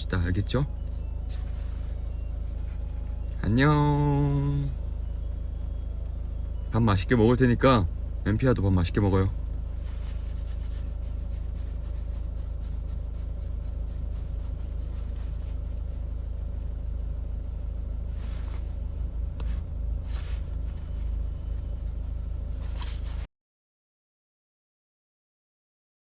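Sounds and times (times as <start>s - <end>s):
low background rumble: 0.0s - 23.3s
scrapes and rustles: 0.4s - 8.2s, 9.2s - 23.3s.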